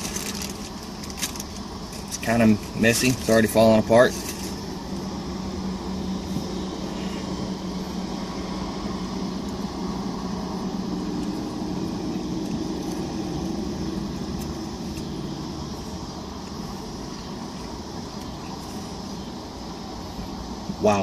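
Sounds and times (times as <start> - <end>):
air conditioning blower: 0.0 - 21.0
car engine hum: 0.0 - 21.0.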